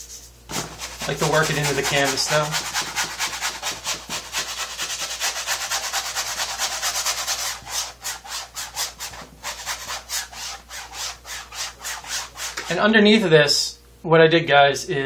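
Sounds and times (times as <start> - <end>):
paintbrush scrubbing canvas: 0.0 - 12.8.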